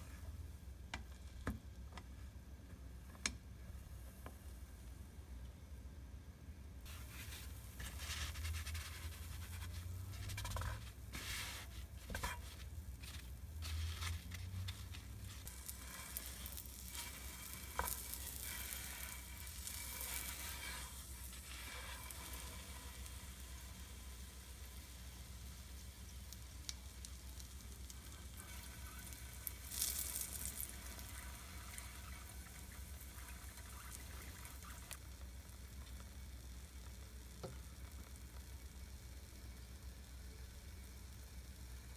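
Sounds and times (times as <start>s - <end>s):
butter sizzling in a frying pan: 6.9s - 41.9s.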